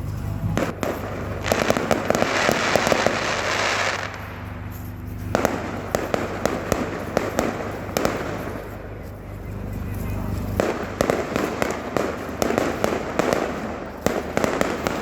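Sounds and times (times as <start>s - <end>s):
fireworks crackling and cracking: 0.0s - 15.0s.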